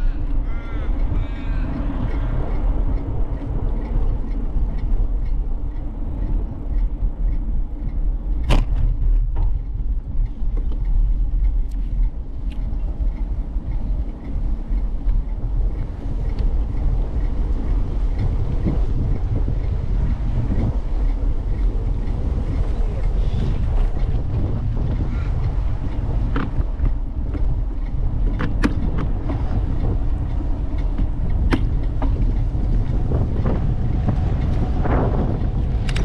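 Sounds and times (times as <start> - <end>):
bicycle road noise: 0.0 - 36.0
faint even ticking: 0.0 - 36.0
wind rumbling on microphone: 0.0 - 36.0.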